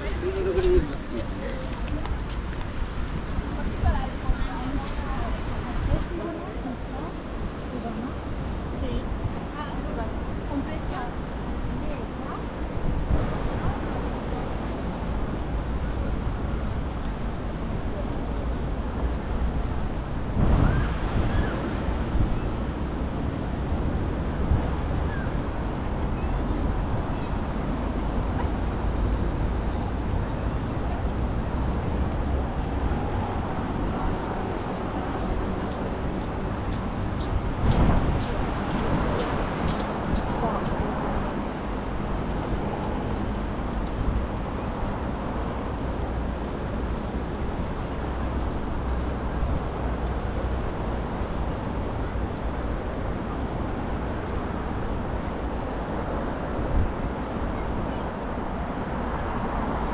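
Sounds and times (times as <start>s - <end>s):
sea surf: 0.0s - 59.9s
wind rumbling on microphone: 0.0s - 59.9s.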